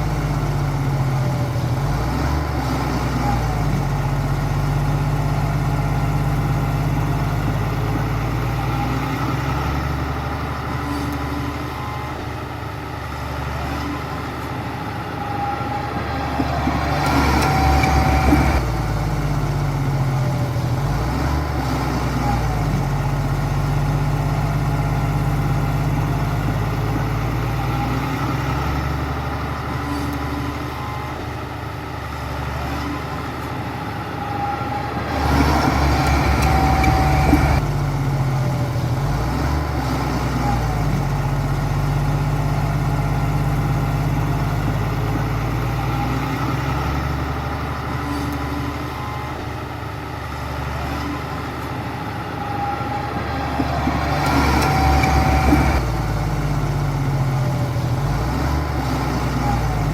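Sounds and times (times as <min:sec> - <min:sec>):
heavy machinery diesel engine running: 0:00.0 - 0:59.9.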